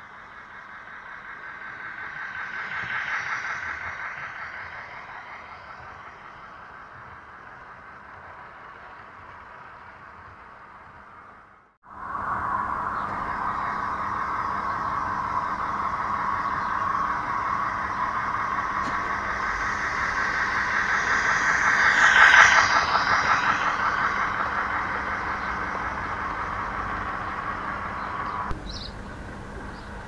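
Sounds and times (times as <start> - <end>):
model train whirring on rails: 0.0 - 30.0.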